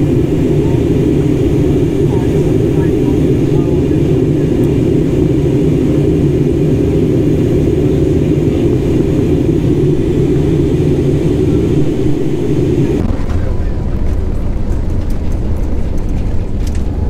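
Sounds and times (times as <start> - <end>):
rushing air: 0.0 - 14.9
jet engine drone: 0.0 - 17.0.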